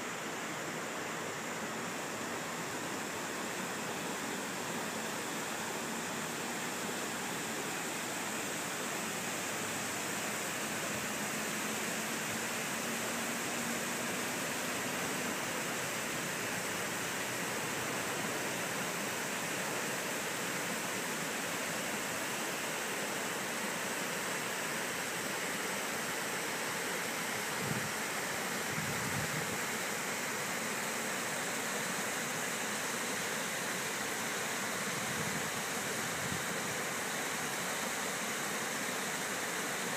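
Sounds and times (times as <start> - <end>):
water rushing over dam spillway: 0.0 - 39.9.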